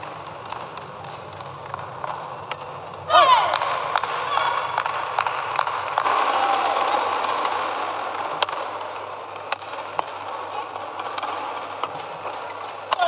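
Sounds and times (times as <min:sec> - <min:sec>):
rackets hitting shuttlecock: 0:00.0 - 0:13.0.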